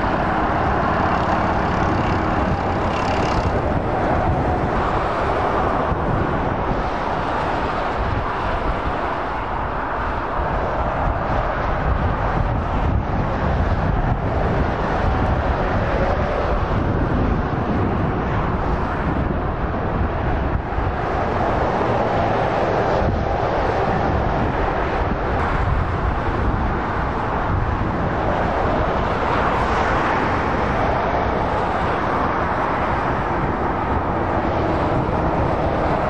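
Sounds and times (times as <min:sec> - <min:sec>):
wind on microphone: 0:00.0 - 0:36.0.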